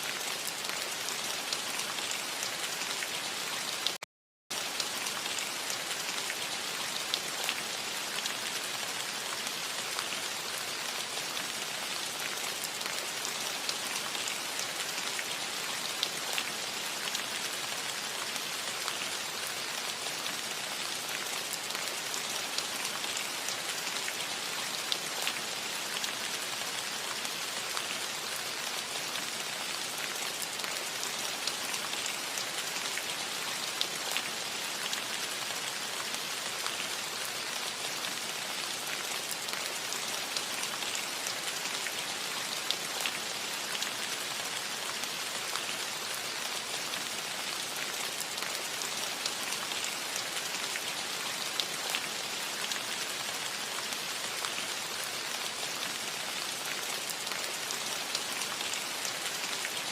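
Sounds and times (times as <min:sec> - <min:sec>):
rain falling on a roof: 0:00.0 - 0:59.9.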